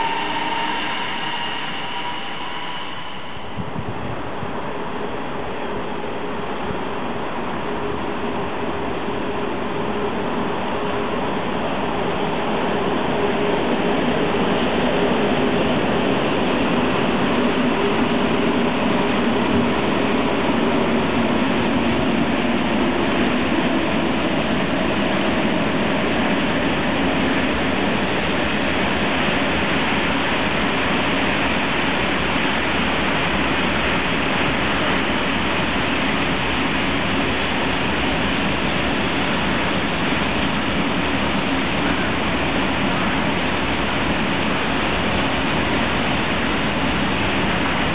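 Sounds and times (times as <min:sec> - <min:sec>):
locomotive humming: 0:00.0 - 0:47.9
wagons rumbling on rails: 0:00.0 - 0:47.9.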